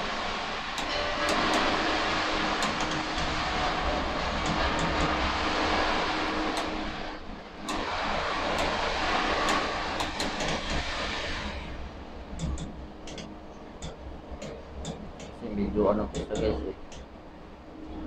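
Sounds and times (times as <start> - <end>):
crane machinery rumble: 0.0 - 18.0
faint hum: 0.0 - 18.0.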